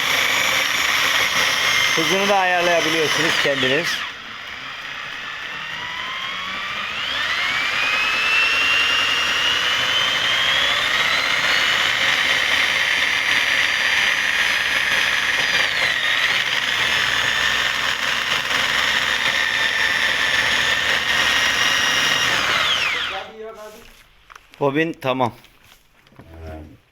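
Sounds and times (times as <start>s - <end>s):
electric drill motor whine: 0.0s - 23.3s.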